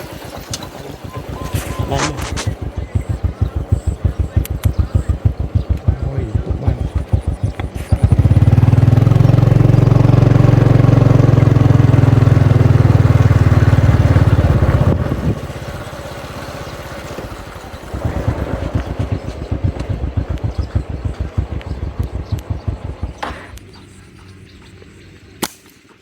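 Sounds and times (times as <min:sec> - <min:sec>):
small engine revving and idling: 0:00.0 - 0:25.4.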